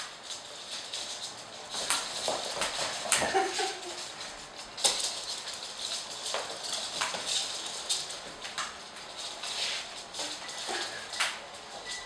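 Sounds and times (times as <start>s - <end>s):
mop swishing across floor: 0.0s - 12.0s
puppy claws clicking on floor: 0.0s - 12.0s.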